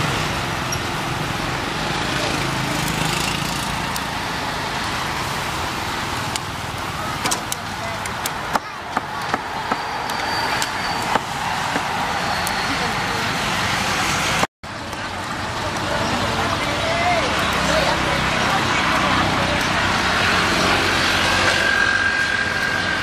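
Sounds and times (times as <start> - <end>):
traffic: 0.0 - 23.0.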